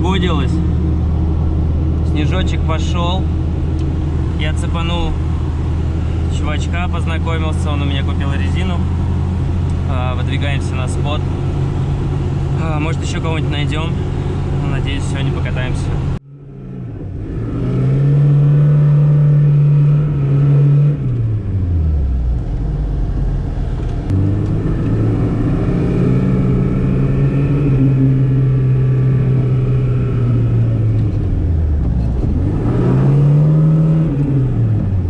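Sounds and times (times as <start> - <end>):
car engine revving while driving: 0.0 - 35.0.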